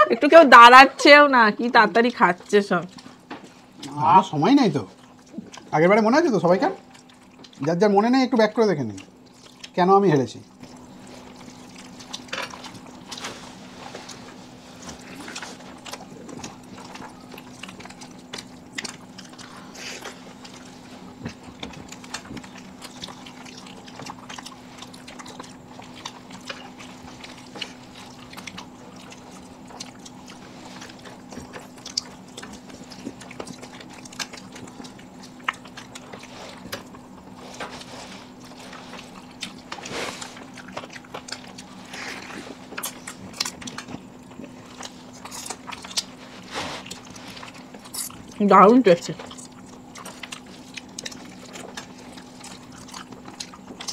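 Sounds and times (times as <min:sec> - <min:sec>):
people chewing: 0:00.0 - 0:53.9
steady low hum: 0:00.0 - 0:53.9.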